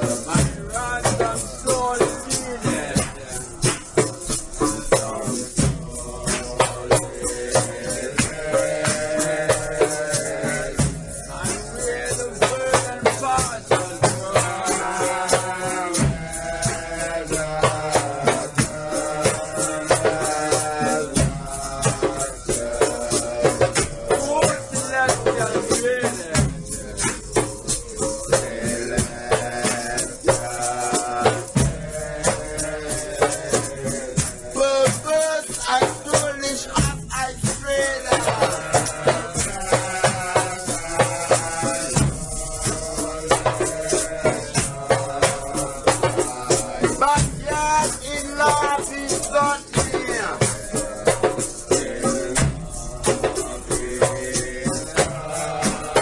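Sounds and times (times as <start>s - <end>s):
group of voices singing: 0.0s - 56.0s
shaker rattle: 0.0s - 56.0s.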